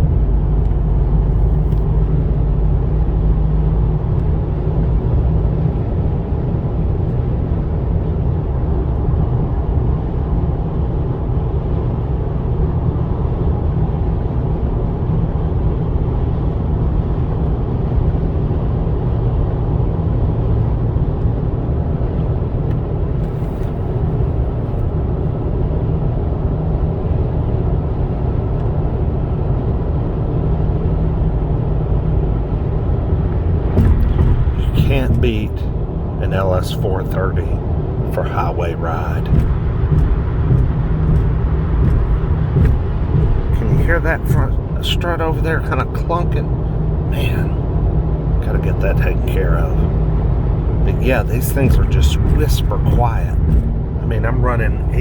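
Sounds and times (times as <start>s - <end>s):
road and tyre noise in car: 0.0s - 55.0s.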